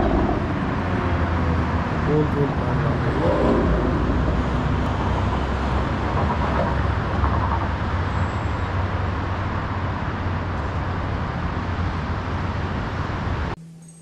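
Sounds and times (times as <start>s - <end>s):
highway traffic rush: 0.0s - 13.6s.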